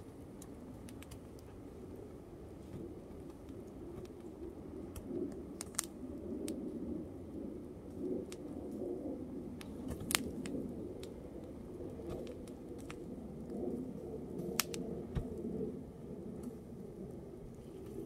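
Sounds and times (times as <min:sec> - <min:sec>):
fire crackles and pops: 0:00.0 - 0:18.0
fire rushing: 0:03.2 - 0:17.8.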